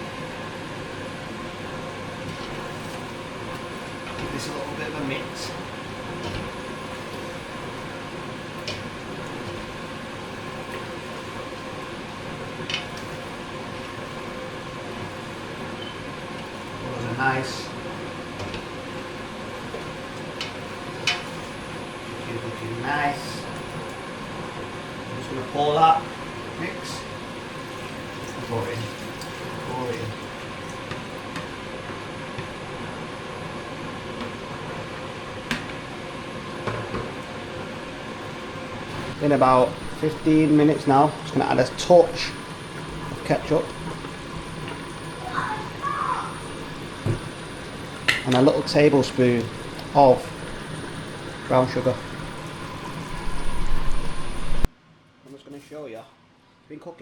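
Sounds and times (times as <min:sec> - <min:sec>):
kitchen hiss and hum: 0:00.0 - 0:57.0.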